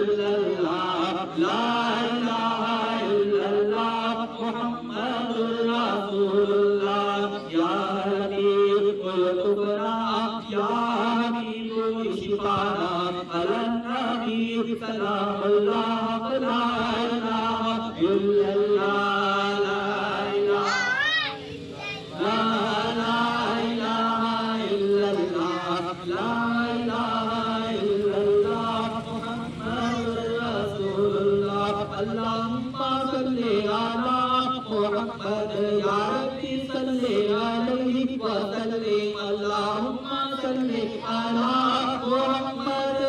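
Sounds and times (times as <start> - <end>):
man chanting through loudspeaker: 0.0 - 21.0, 21.6 - 43.0.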